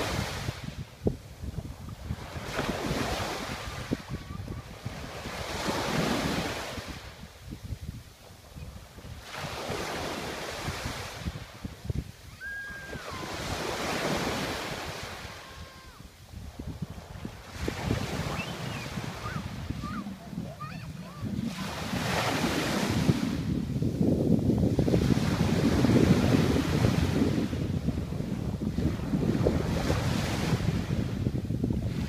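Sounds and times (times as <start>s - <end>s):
sea waves breaking: 0.0s - 32.0s
wind buffeting microphone: 0.0s - 32.0s.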